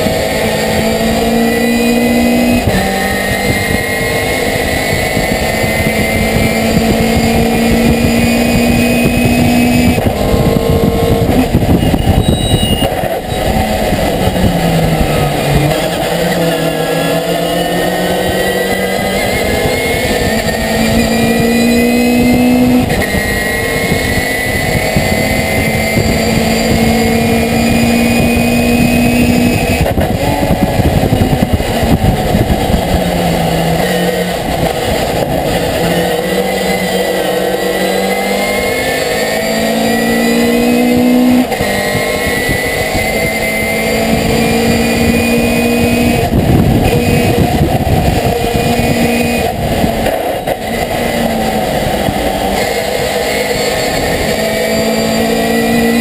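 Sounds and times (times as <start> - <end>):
racing truck engine revving: 0.0 - 56.0
wind and road noise: 0.0 - 56.0.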